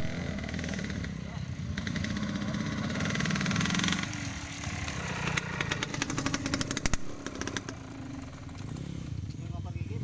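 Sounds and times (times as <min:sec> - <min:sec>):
dirt bike engine passing: 0:00.0 - 0:10.0.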